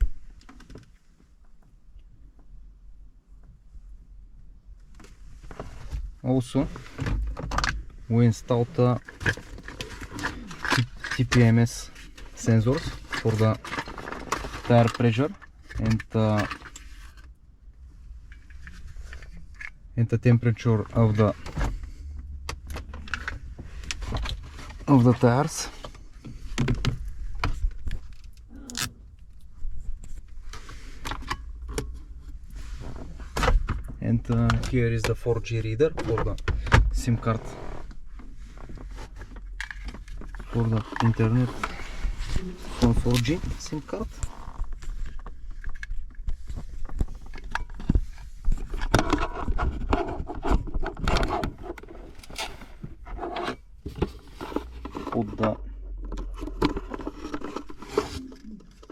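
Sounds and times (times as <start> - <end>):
handling clicks and rustles: 4.8 - 17.4, 18.1 - 58.9.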